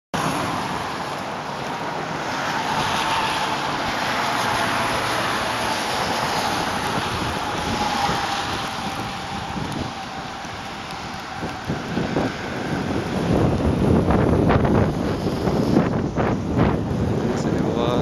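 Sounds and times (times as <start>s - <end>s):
river rushing in flood: 0.2s - 18.0s
wind buffeting microphone: 0.4s - 18.0s.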